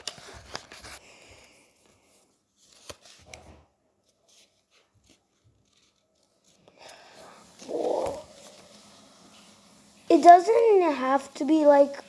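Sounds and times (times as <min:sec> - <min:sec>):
paper rustling as it is folded: 0:00.0 - 0:12.0.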